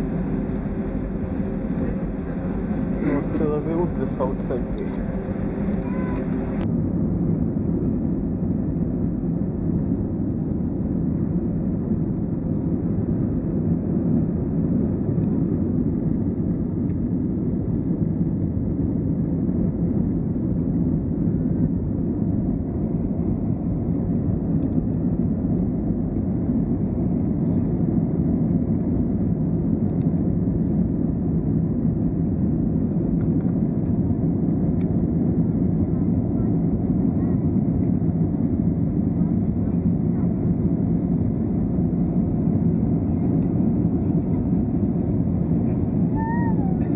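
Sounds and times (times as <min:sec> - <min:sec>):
jet engines in cabin: 0:00.0 - 0:46.9.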